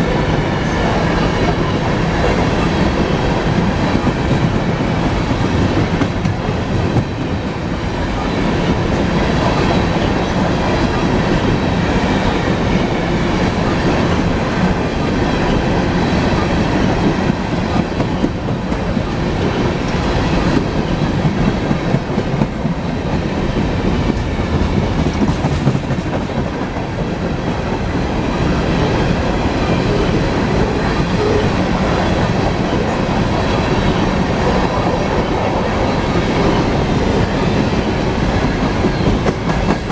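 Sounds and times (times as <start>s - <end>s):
steel wheels rumbling on rail: 0.0s - 39.9s
clickety-clack over rail joints: 0.5s - 39.9s.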